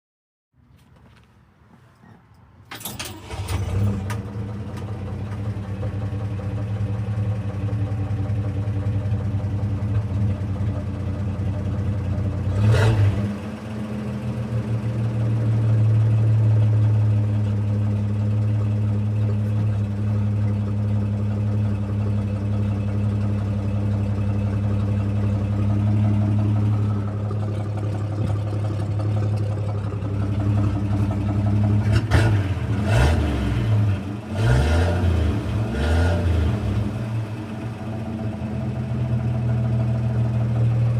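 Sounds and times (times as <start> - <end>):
truck engine starting and running: 0.6 - 40.9.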